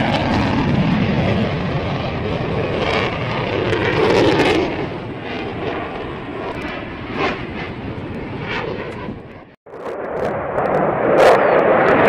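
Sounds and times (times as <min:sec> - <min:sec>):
fighter jet engine roar: 0:00.0 - 0:12.0.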